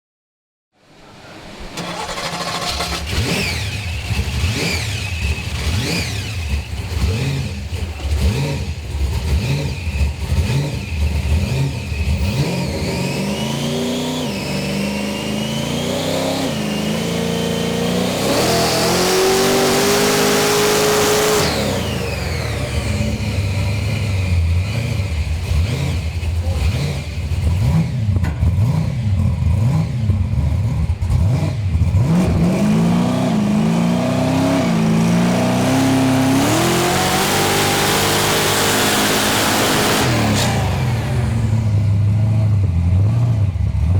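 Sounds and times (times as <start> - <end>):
supercharged car engine revving: 1.4 - 43.9.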